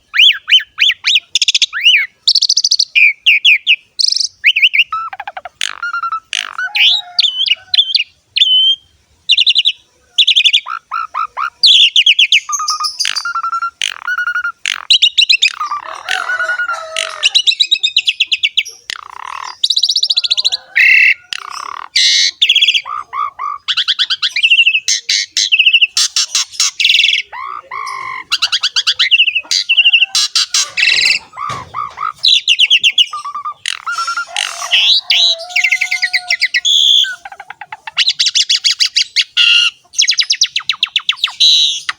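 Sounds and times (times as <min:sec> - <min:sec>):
bird singing whistles and trills: 0:00.1 - 0:10.8, 0:11.6 - 0:15.8, 0:17.4 - 0:31.3, 0:32.0 - 0:41.9.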